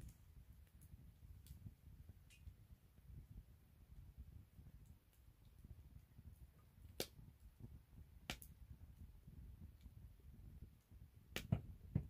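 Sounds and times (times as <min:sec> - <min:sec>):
faint low rumble of fire: 0:00.0 - 0:12.0
firewood crackling and popping: 0:00.0 - 0:12.0.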